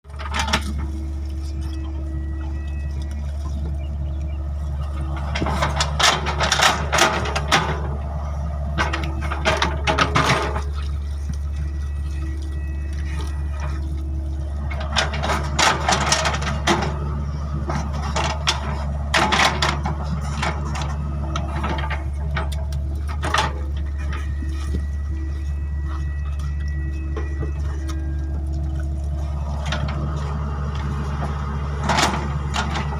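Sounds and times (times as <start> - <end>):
diesel engine droning: 0.0 - 32.9
excavator clatter: 0.0 - 32.9.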